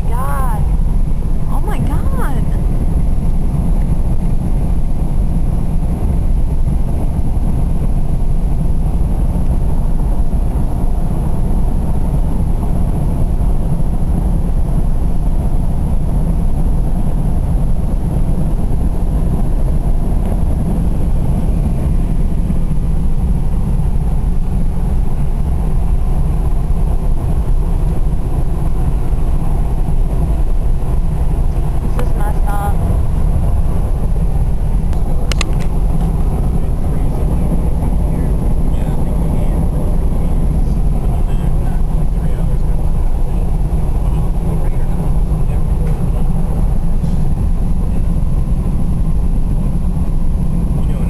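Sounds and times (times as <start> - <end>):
car interior road and engine noise: 0.0 - 51.0.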